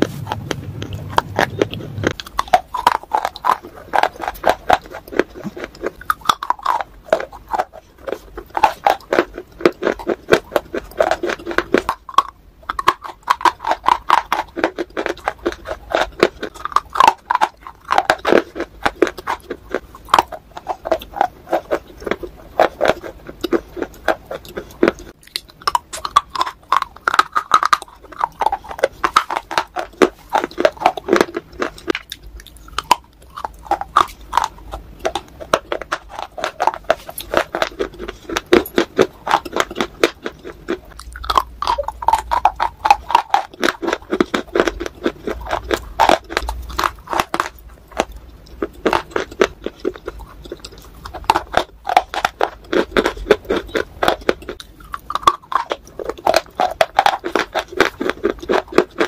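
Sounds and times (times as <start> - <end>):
crunching and chewing clay: 0.0 - 59.0.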